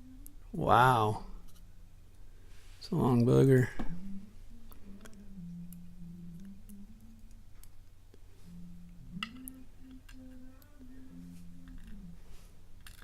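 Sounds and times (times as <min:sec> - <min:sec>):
person humming: 0:00.0 - 0:01.9, 0:02.9 - 0:13.0
electrical hum: 0:00.0 - 0:13.0.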